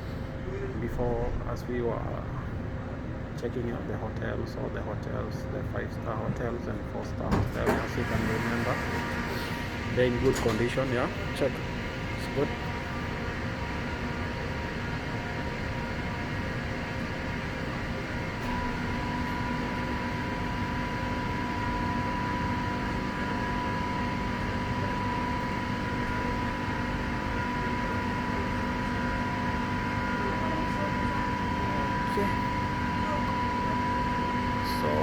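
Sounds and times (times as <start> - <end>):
metro train hum and rumble: 0.0 - 35.0
train whine: 0.0 - 35.0.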